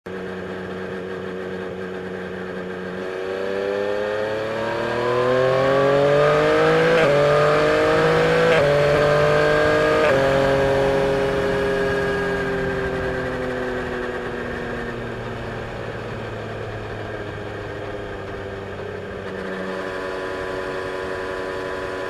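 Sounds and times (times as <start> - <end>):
motorcycle engine accelerating: 0.1 - 22.0.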